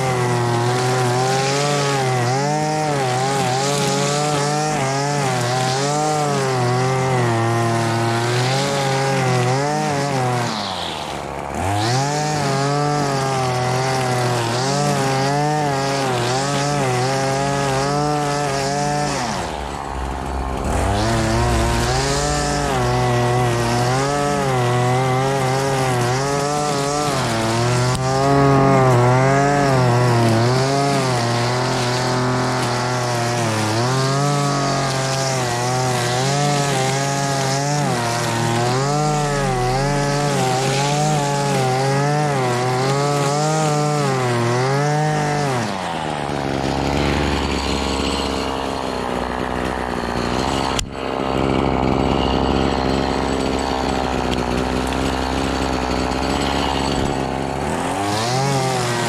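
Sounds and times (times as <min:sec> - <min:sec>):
string trimmer engine cutting grass: 0:00.0 - 0:59.0.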